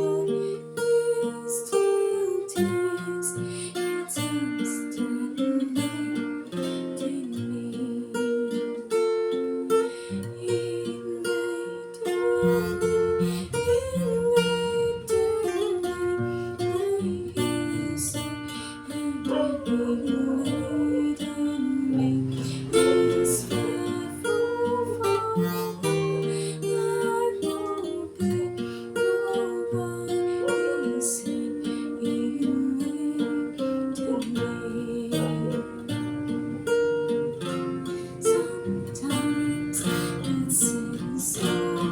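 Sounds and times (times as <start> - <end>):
person singing: 0.0 - 8.8, 9.4 - 36.8, 37.5 - 41.9
acoustic guitar: 0.0 - 41.9.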